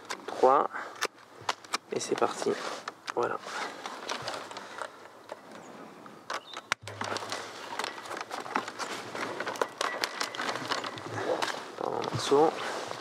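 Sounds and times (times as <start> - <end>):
vine cane rustling and clicking: 0.0 - 13.0.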